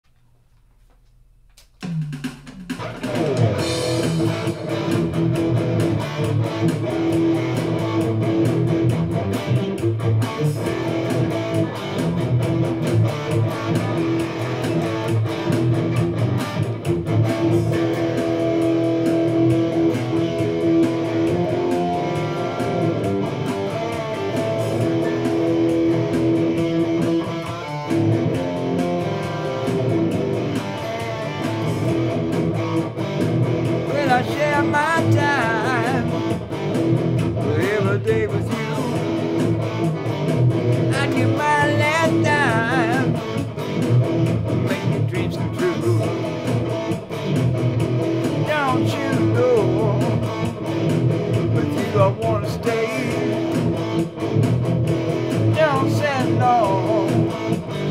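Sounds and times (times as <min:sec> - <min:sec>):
electric guitar playing: 0:01.6 - 0:57.9.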